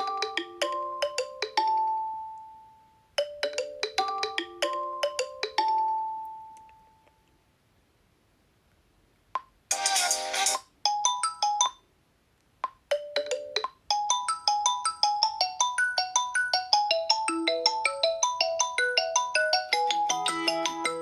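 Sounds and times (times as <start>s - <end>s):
bell-like ringtone melody: 0.0s - 7.0s, 9.7s - 11.8s, 12.9s - 21.0s
phone ringtone electronic notes: 0.0s - 7.0s, 9.7s - 11.8s, 12.9s - 21.0s.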